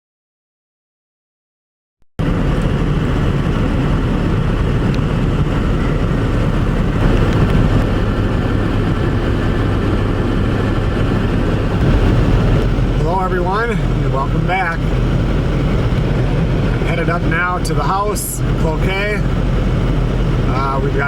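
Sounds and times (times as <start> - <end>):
truck cab road and engine noise: 2.2 - 21.0.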